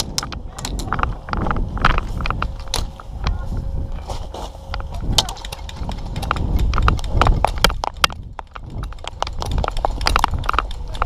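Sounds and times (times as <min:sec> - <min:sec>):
low rumble of movement: 0:00.0 - 0:11.0.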